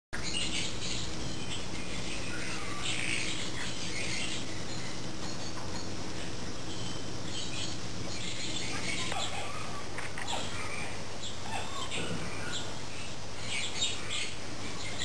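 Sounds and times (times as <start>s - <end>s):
high-pitched chirping calls: 0.2s - 15.0s
steady low hum: 0.2s - 15.0s.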